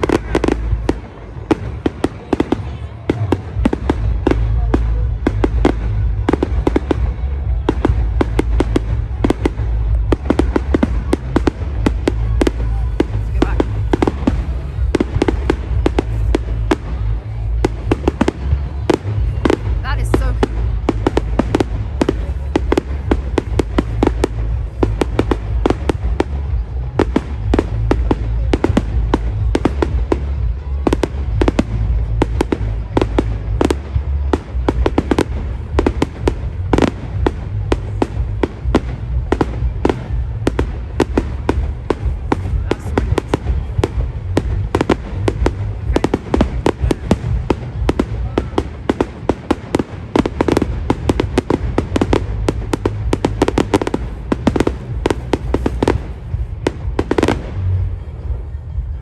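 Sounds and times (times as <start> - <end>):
fireworks bangs and crackles: 0.0 - 59.0
steady low rumble: 0.0 - 59.0.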